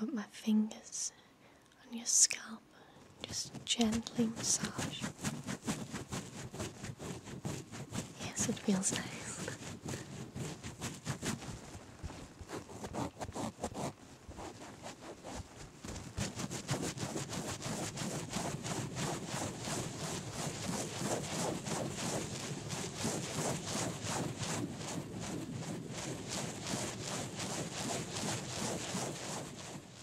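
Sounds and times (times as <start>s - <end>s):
fingers rubbing hair on scalp: 3.2s - 30.0s.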